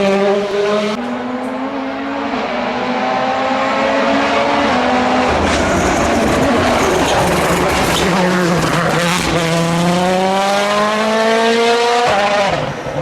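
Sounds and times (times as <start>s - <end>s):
car passing with crackling rush: 0.0s - 13.0s
rally car engine accelerating: 0.0s - 13.0s.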